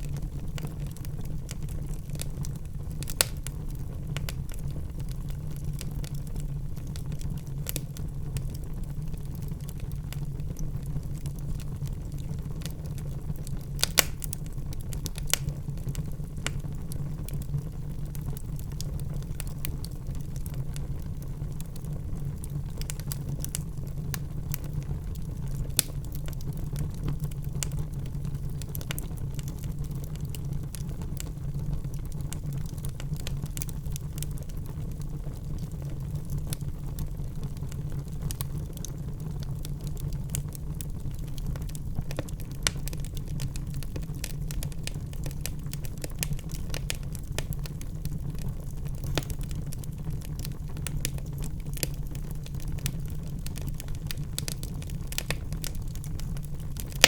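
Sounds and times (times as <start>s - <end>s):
fire crackles and pops: 0.0s - 57.0s
log fire roaring: 0.0s - 57.0s.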